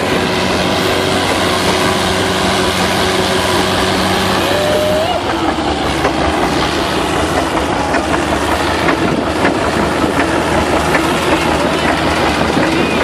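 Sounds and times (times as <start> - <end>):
tractor engine running loud: 0.0 - 13.0.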